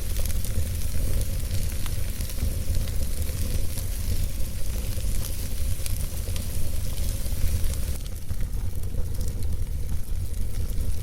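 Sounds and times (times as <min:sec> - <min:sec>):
fire low rumble: 0:00.0 - 0:11.0
wood fire crackling and popping: 0:00.0 - 0:11.0.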